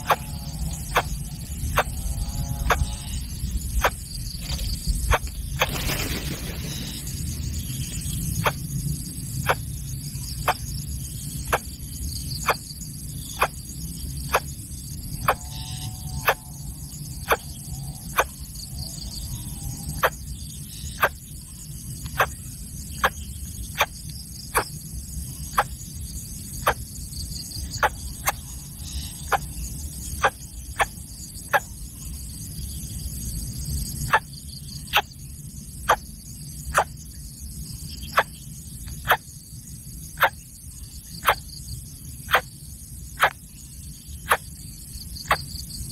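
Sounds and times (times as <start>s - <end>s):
steady low rumble: 0.0s - 45.9s.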